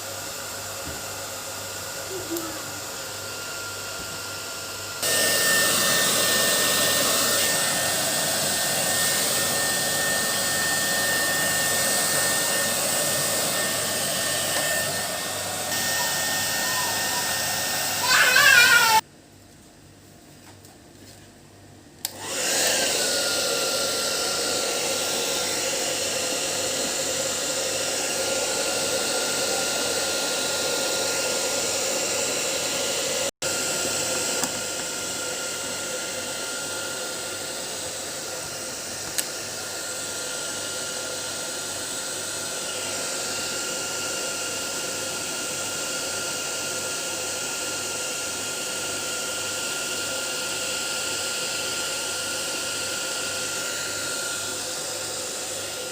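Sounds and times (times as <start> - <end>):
hair dryer blowing: 0.0 - 19.0, 22.0 - 55.9.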